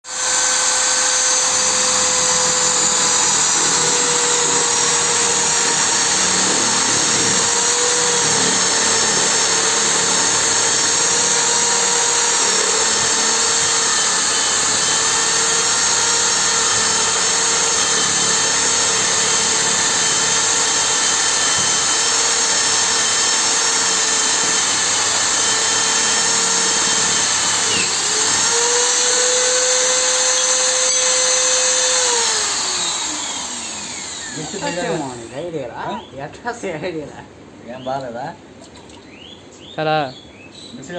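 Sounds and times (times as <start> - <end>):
electric drill whining: 0.0 - 35.5.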